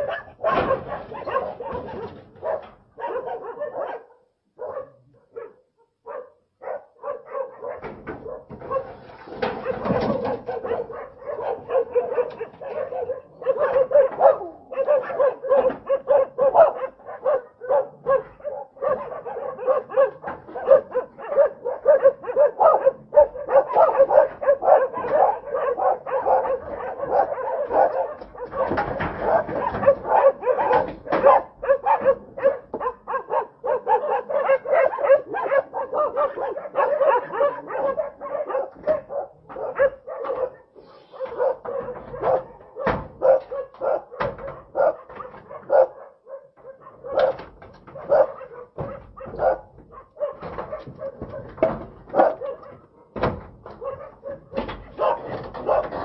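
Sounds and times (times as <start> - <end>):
dog barking: 0.0 - 56.0.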